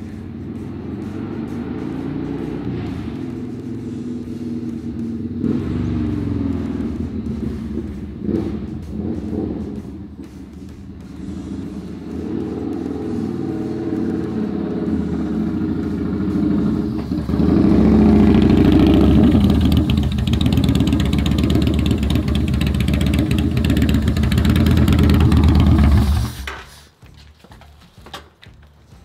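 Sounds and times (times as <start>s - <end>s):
motorcycle engine running: 0.0s - 28.2s.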